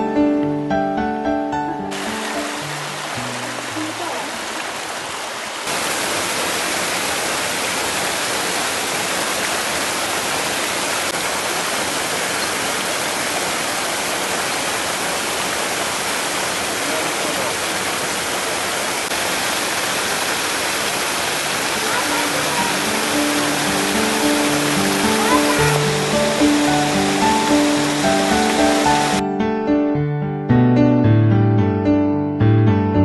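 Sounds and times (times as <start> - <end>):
waterfall pouring onto rocks: 1.9 - 29.2.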